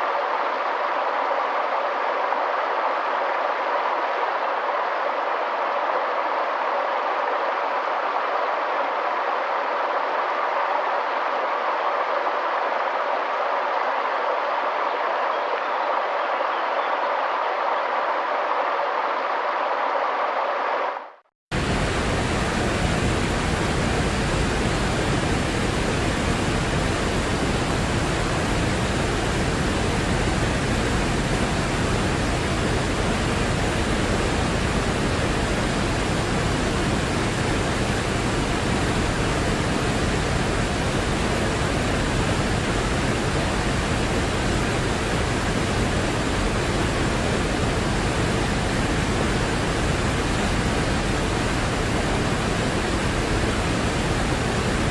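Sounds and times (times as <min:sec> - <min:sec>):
river rushing: 0:00.0 - 0:21.0, 0:21.6 - 0:54.9.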